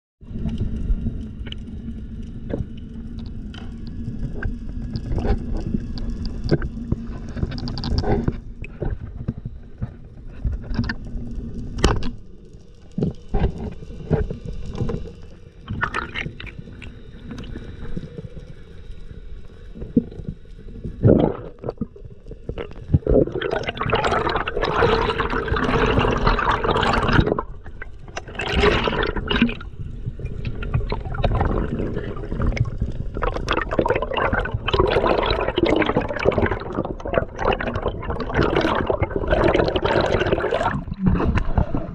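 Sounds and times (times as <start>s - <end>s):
rush of air bubbles: 0.2s - 12.2s, 15.6s - 18.1s, 19.8s - 41.9s
low underwater rumble: 0.2s - 41.9s.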